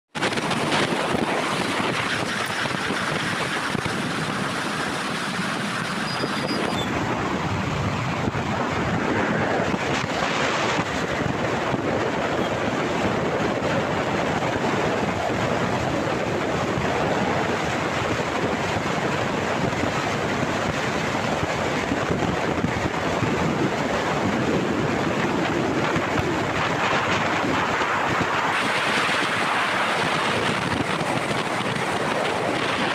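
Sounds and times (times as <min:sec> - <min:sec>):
wind rushing on microphone: 0:00.1 - 0:32.9.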